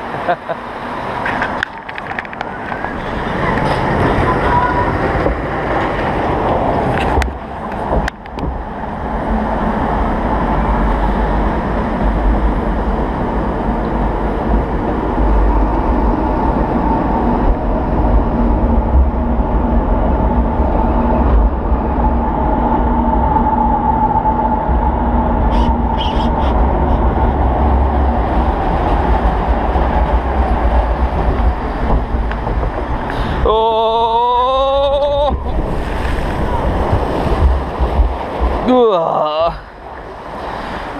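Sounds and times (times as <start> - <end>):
lift conveyor rumble: 0.0 - 40.9.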